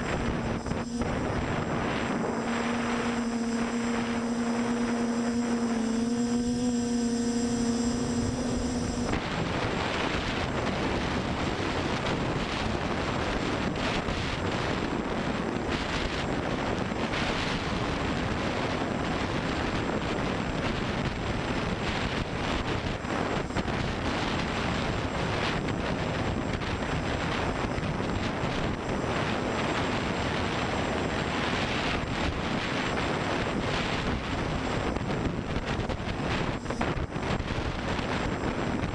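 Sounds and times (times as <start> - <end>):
drone motors humming: 0.0 - 38.9
wind noise on microphone: 0.0 - 38.9.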